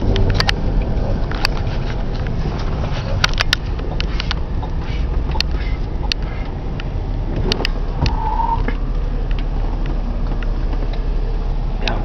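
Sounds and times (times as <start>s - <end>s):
car driving rumble in cabin: 0.0s - 12.0s.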